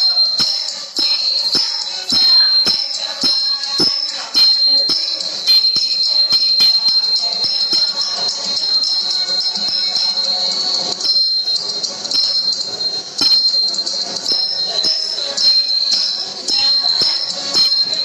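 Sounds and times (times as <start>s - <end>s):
bells jingling in a beat: 0.0s - 18.0s.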